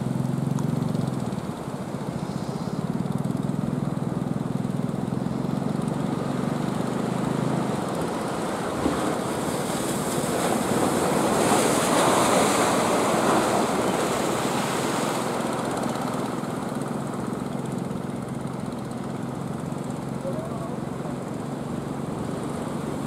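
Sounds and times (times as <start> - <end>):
boat engine low hum: 0.0 - 23.0
surf washing in: 0.0 - 23.0.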